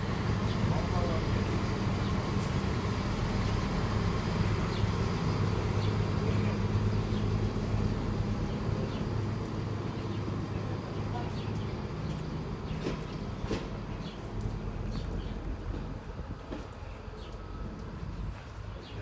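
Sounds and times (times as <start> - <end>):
diesel train engine droning: 0.0 - 19.0.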